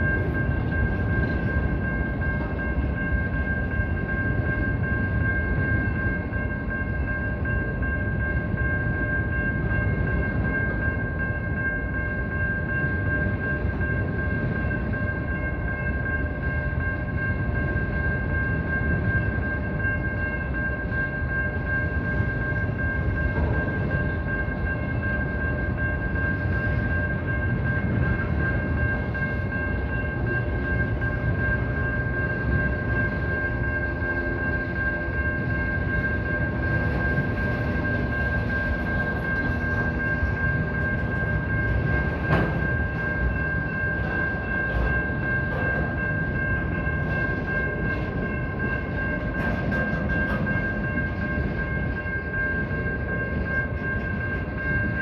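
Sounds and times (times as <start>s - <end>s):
crossing warning bell ringing: 0.0s - 55.0s
train wheels rumbling on rails: 0.0s - 55.0s.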